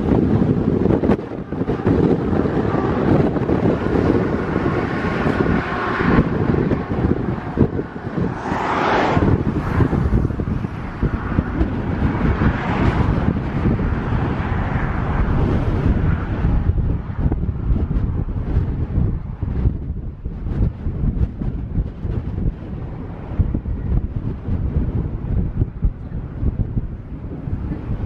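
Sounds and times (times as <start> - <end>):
vehicle noise: 0.0 - 28.0
wind buffeting microphone: 0.0 - 28.0.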